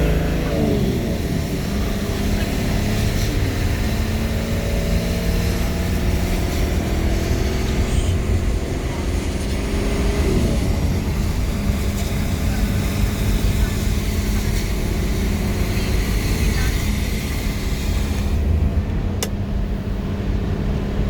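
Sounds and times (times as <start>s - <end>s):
road noise hiss: 0.0s - 21.0s
vehicle engine rumbling: 0.0s - 21.0s.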